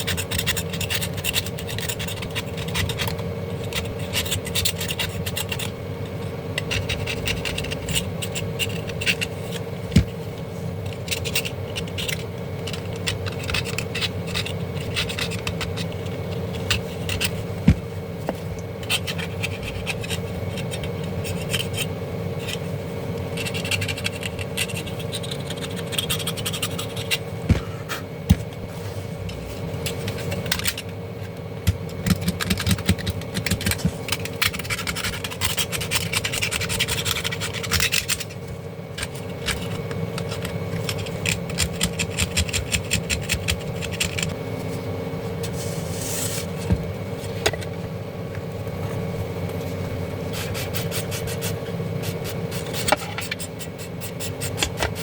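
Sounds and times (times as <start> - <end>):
scraping and rubbing: 0.0 - 17.6, 18.3 - 31.0, 32.0 - 47.8, 49.6 - 55.0
steady hum: 0.0 - 55.0.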